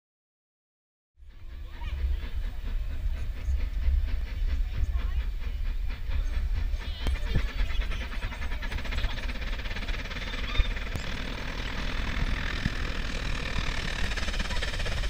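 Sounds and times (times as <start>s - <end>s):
steam locomotive exhaust beating: 1.2s - 15.0s
steam hissing: 1.3s - 15.0s
heavy low rumble: 1.4s - 15.0s.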